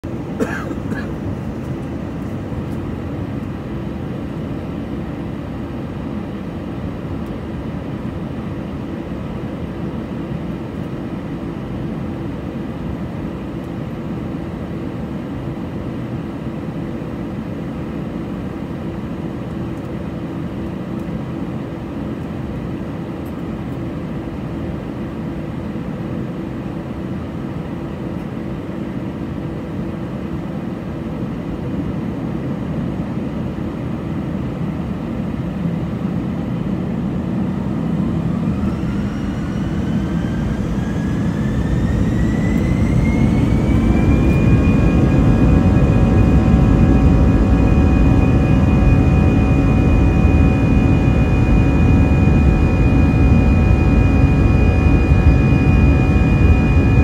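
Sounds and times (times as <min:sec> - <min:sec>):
faint engine whines: 0:00.0 - 0:57.0
jet engines idling low rumble: 0:00.0 - 0:57.0.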